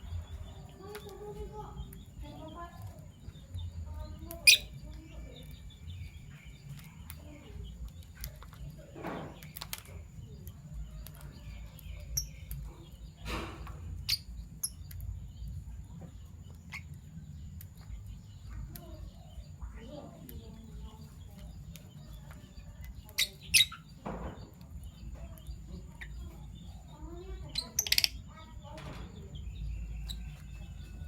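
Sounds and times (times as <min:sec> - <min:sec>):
lovebirds chirping: 0:00.0 - 0:31.0.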